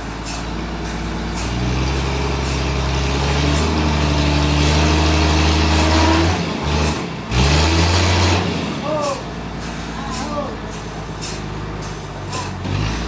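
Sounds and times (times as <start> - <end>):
large engine running under load: 0.0 - 13.0.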